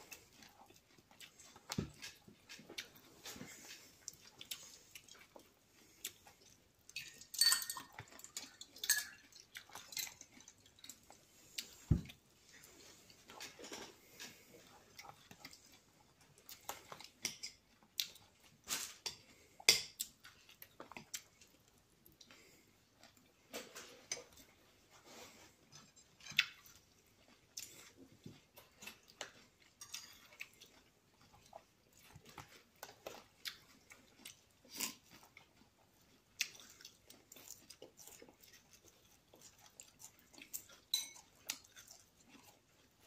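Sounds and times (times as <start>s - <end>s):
chewing: 0.0s - 43.0s.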